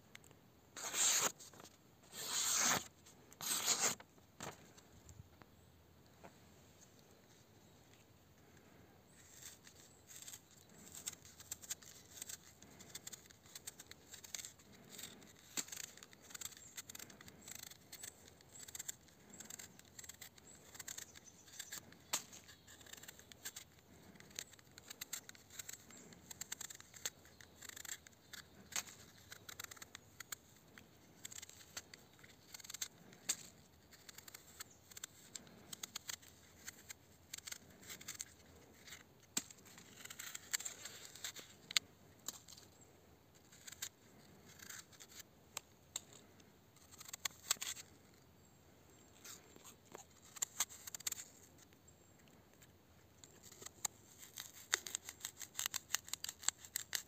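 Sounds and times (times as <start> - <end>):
knife cutting apple skin: 0.8 - 1.4, 2.1 - 4.0, 9.1 - 42.7, 43.4 - 47.9, 49.2 - 51.4, 53.4 - 57.0.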